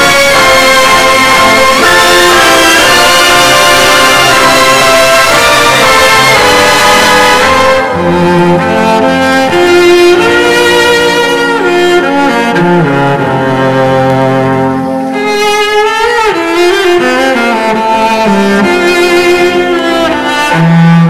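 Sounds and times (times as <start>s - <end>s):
orchestral music from vinyl record: 0.0s - 21.0s.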